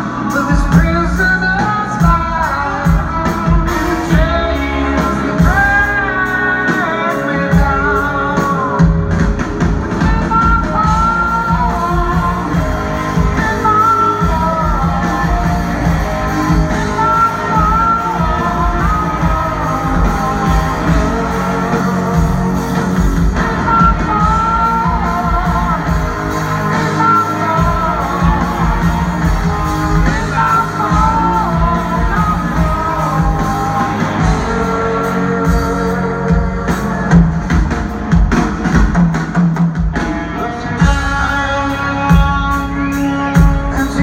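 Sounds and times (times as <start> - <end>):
person singing: 0.0 - 39.0, 39.7 - 44.0
rock band playing: 0.0 - 44.0.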